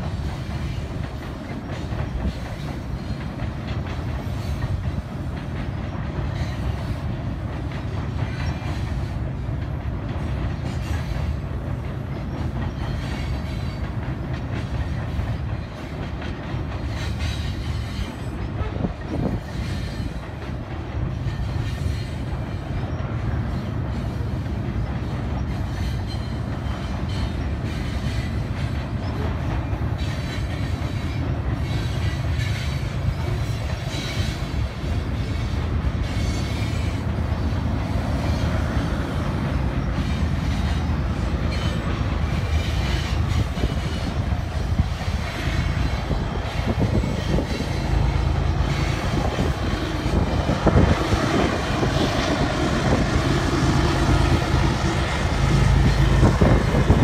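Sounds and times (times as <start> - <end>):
freight train wheels rumbling on bridge: 0.0 - 57.0.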